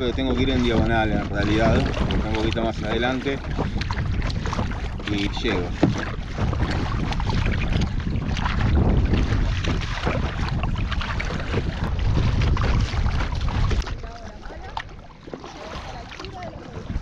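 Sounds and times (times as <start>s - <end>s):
paddle strokes splashing: 0.0s - 17.0s
wind rumble on microphone: 0.0s - 17.0s.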